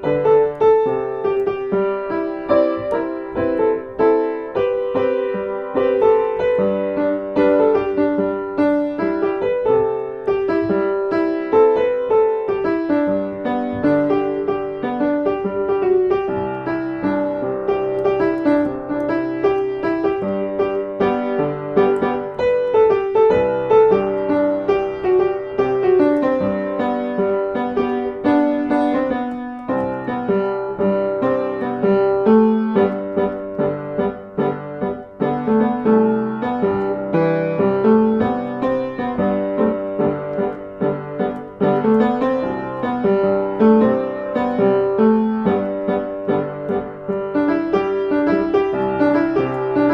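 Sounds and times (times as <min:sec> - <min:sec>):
solo piano music: 0:00.0 - 0:49.9.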